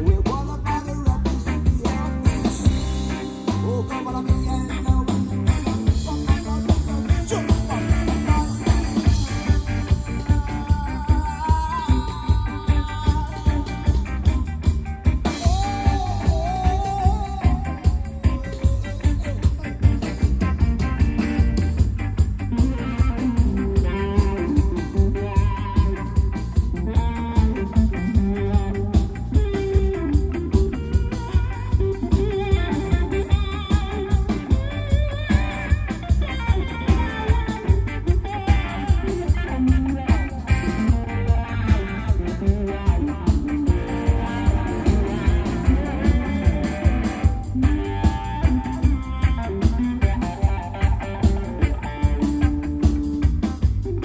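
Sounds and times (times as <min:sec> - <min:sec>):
live reggae band playing: 0:00.0 - 0:54.0.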